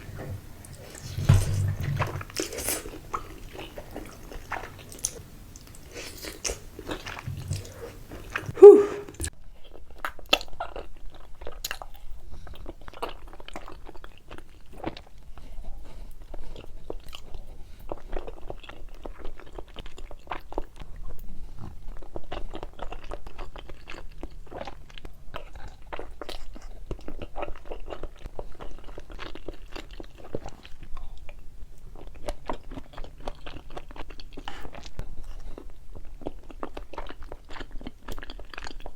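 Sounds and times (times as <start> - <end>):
crunchy eating and chewing: 0.0 - 38.9.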